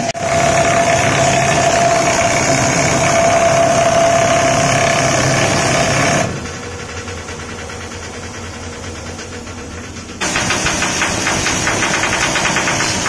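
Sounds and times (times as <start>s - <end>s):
pneumatic hammer rattling: 0.0s - 13.0s
steady whine: 0.0s - 13.0s.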